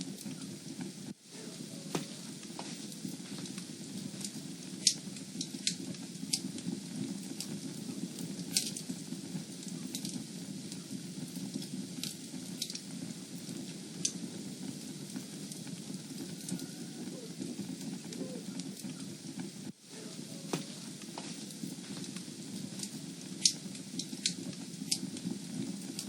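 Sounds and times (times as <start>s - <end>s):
fire crackling and popping: 0.0s - 26.0s
fire rushing: 0.0s - 26.0s.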